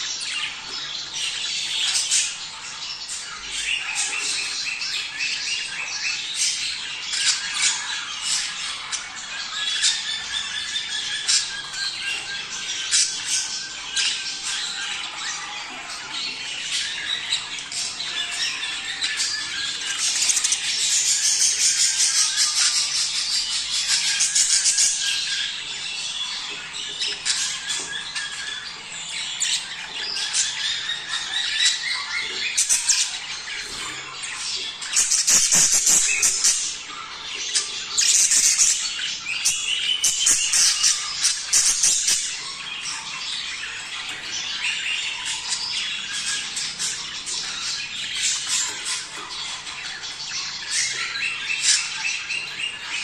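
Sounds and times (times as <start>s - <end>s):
budgerigars chattering and chirping: 0.0s - 53.0s.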